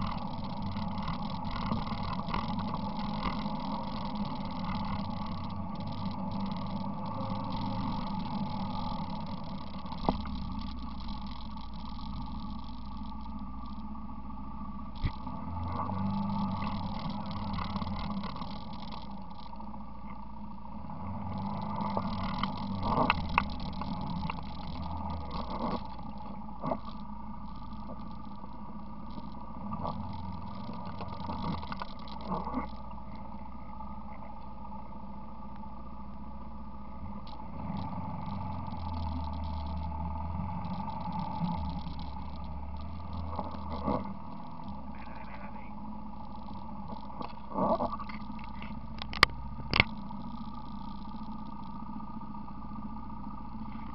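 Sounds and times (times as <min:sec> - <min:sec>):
quad engine rumbling: 0:00.0 - 0:53.9.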